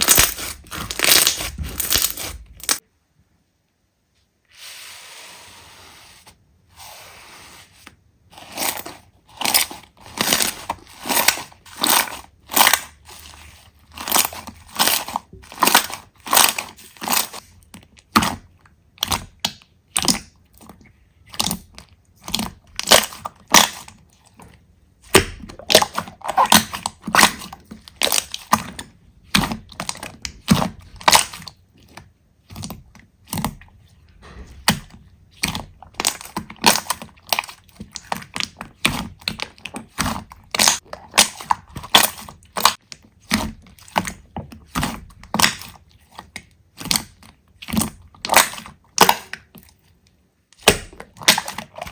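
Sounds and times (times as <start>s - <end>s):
slime squelching: 0.0s - 2.8s, 4.4s - 51.9s.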